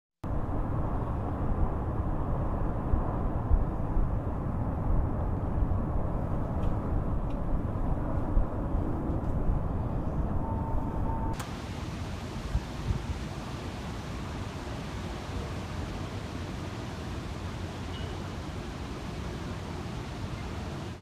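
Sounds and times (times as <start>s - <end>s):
hurricane wind buffeting microphone: 0.2s - 21.0s.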